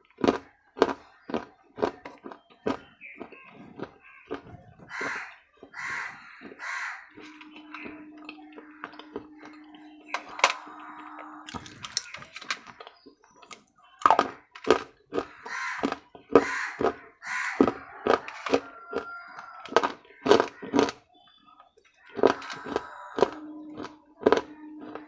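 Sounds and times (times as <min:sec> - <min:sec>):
gritty chewing: 0:00.0 - 0:25.0
hard food crunching: 0:00.0 - 0:25.0.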